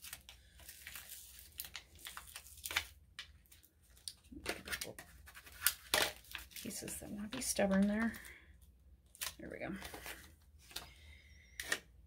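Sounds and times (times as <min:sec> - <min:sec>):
transfer tape crinkling and peeling: 0:00.0 - 0:08.3, 0:09.0 - 0:10.9.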